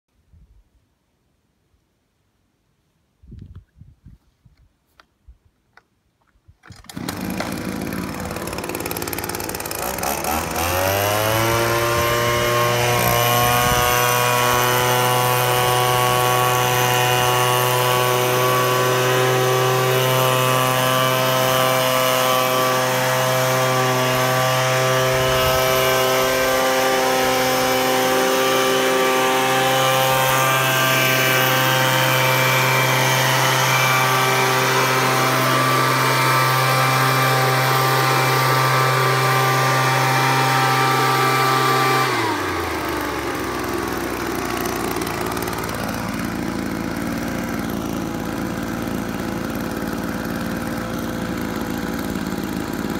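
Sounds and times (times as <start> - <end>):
leaf blower motor whining: 6.6 - 52.9.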